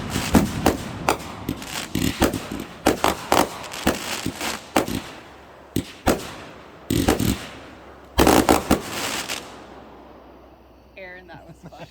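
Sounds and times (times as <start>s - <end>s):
fireworks bangs: 0.0s - 11.3s.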